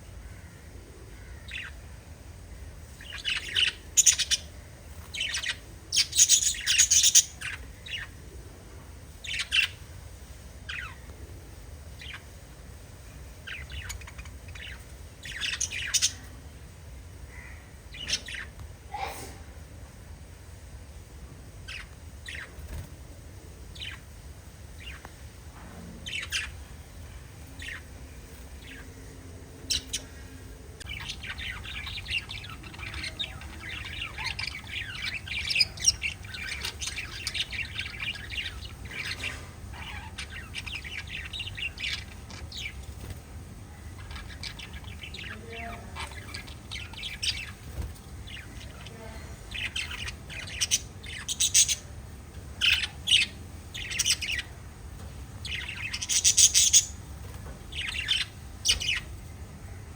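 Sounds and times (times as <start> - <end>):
parrots chirping and chattering: 0.0 - 20.0, 21.4 - 23.0, 23.6 - 59.9
steady low hum: 0.0 - 59.9.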